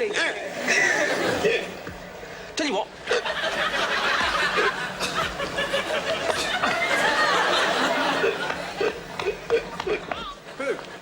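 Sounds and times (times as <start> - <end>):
audience laughing: 0.4 - 2.1, 2.9 - 11.0.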